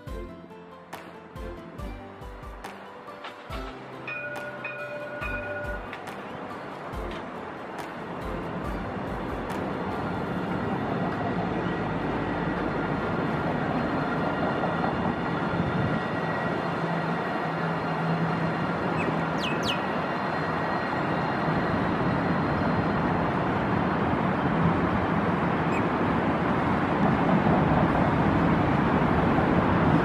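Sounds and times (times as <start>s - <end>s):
street traffic: 0.0s - 30.0s
tram motors whining: 0.0s - 30.0s.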